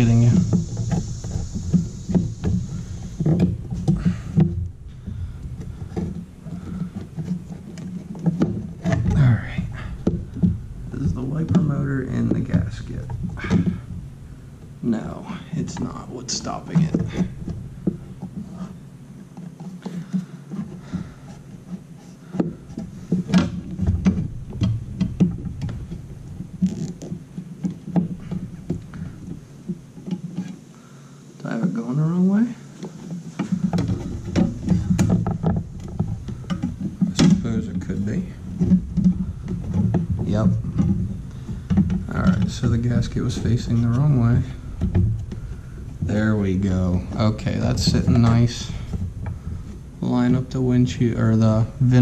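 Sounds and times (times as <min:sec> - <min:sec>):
motor housing knocking and rubbing: 0:00.0 - 0:52.0.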